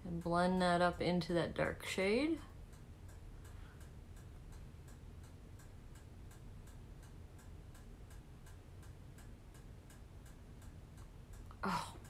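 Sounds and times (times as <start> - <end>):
faint even ticking: 0.0 - 12.0
low room hum: 0.0 - 12.0.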